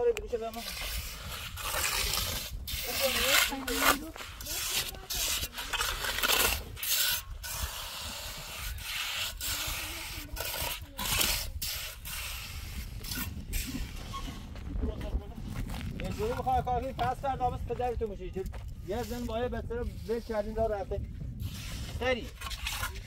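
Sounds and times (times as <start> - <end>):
trowel scraping mortar on blocks: 0.4 - 14.4, 18.4 - 23.0.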